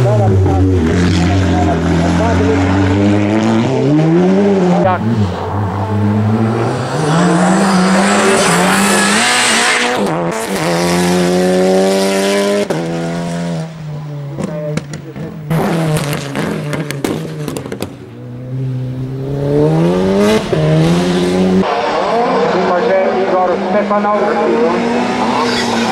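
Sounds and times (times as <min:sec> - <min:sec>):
race car engine accelerating: 0:00.0 - 0:25.9.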